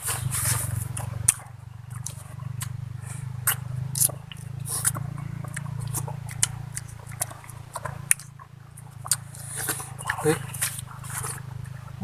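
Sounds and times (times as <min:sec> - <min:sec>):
steady low hum: 0:00.0 - 0:12.0
crunchy clicks: 0:00.5 - 0:12.0
wet chewing and lip smacks: 0:00.6 - 0:12.0.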